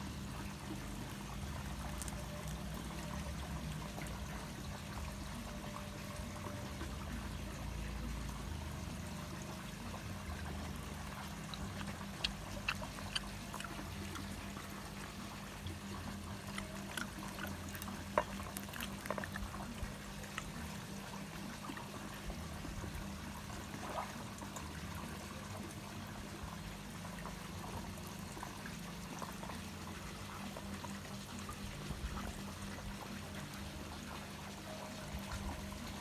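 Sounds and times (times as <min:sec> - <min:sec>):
water pouring and trickling: 0:00.0 - 0:36.0.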